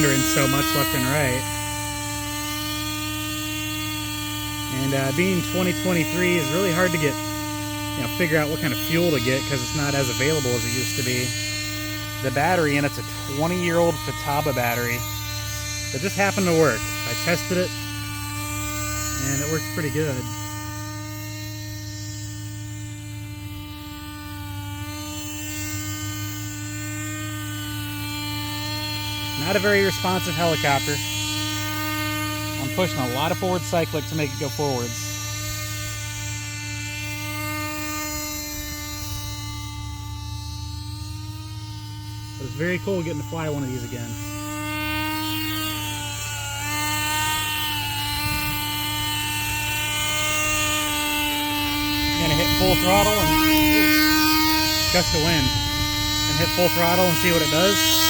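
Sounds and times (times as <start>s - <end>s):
model helicopter engine whining: 0.0s - 58.0s.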